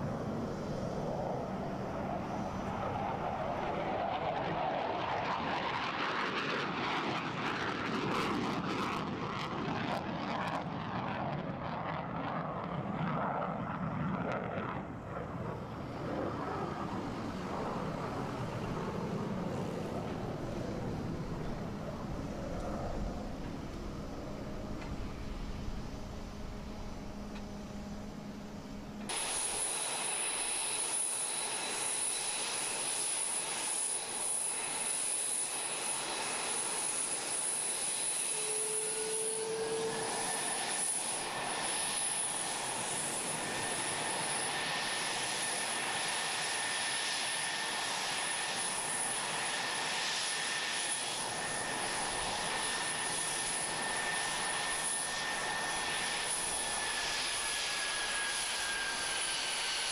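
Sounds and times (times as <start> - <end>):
high turbine whine: 0.0 - 59.9
jet engines running: 0.0 - 59.9.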